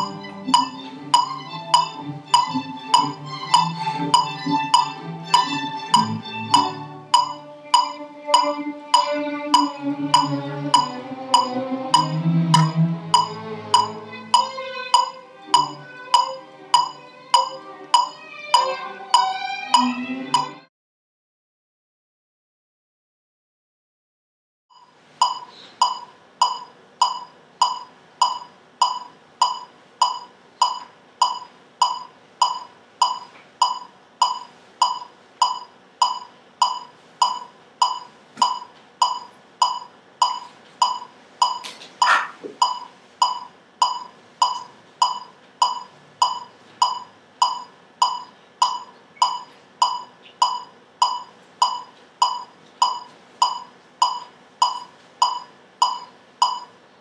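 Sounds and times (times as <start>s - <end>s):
metronome beeping: 0.0s - 20.6s, 25.2s - 56.7s.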